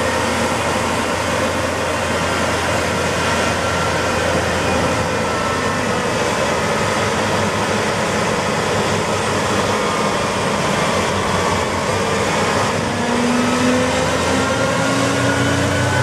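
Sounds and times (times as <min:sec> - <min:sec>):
forage harvester engine running: 0:00.0 - 0:16.0.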